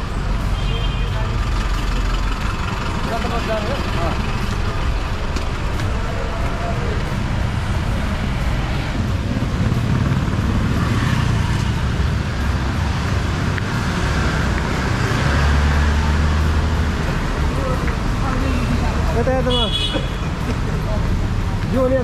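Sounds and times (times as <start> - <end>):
road noise: 0.0 - 22.0
vehicle engine running: 0.0 - 22.0.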